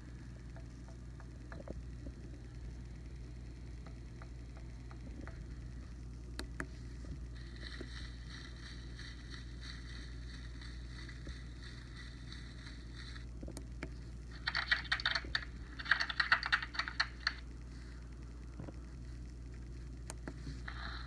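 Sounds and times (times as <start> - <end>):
small speaker playback: 0.0 - 21.0.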